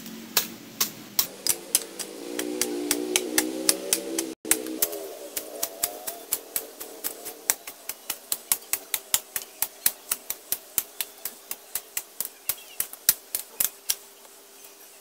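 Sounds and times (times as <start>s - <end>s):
blade chopping weeds: 0.0s - 14.1s.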